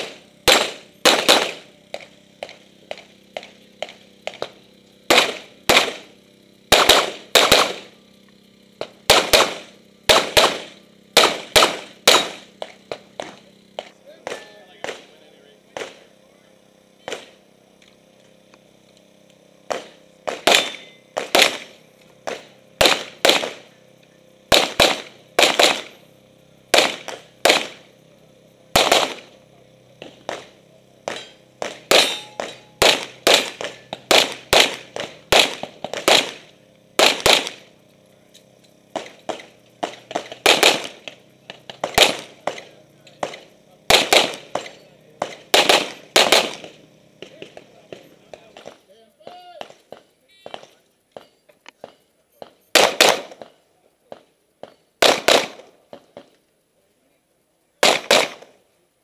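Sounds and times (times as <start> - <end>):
pistol shots: 0.0 - 8.0, 8.8 - 16.2, 17.0 - 17.4, 19.6 - 23.7, 24.4 - 26.0, 26.7 - 28.0, 28.7 - 37.8, 38.8 - 48.8, 49.6 - 56.3, 57.8 - 58.6.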